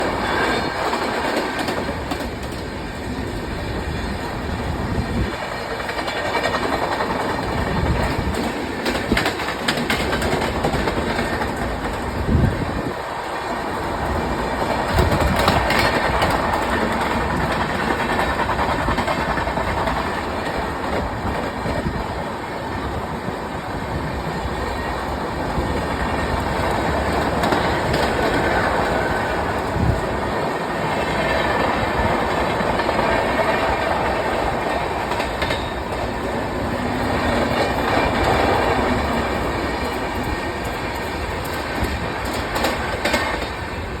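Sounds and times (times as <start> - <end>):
train rumbling on rails: 0.0 - 44.0.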